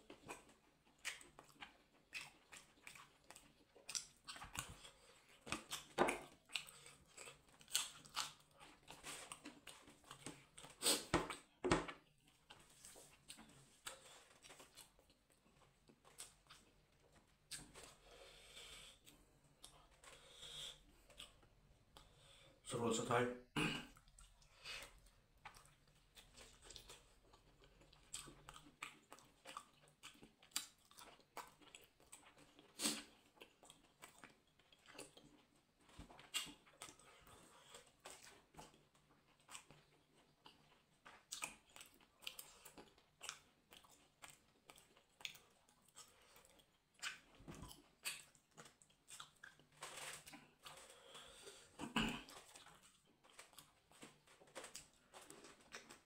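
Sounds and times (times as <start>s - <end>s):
person chewing food: 0.0s - 22.6s, 23.8s - 56.0s.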